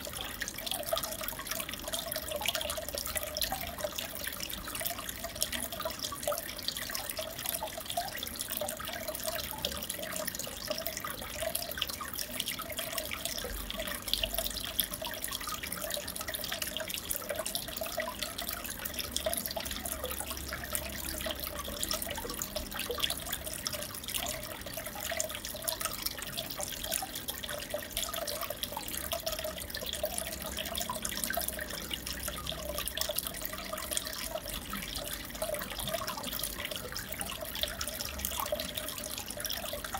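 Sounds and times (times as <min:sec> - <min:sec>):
small drips and bubble pops: 0:00.0 - 0:39.9
water trickling and bubbling: 0:00.0 - 0:39.9.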